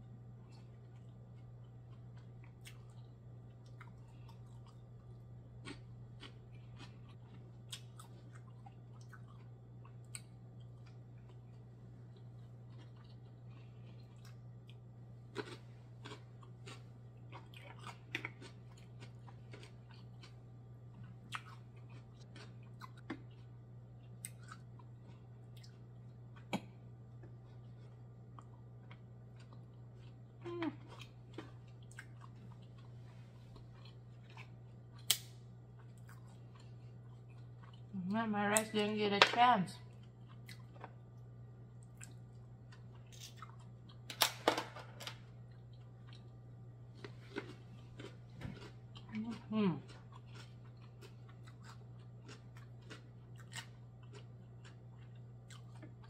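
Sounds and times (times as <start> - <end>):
low steady hum: 0.0 - 56.0
chewing and mouth sounds: 0.4 - 38.0, 39.8 - 44.1, 45.4 - 56.0.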